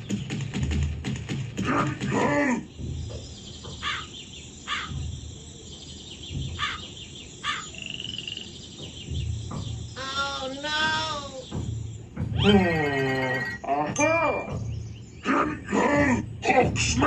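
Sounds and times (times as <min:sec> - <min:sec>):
low pulsing animal calls: 0:01.7 - 0:17.0.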